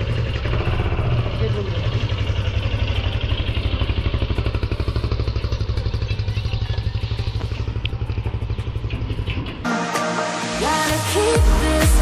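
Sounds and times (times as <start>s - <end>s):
motorcycle engine pulling away: 0.0s - 9.8s.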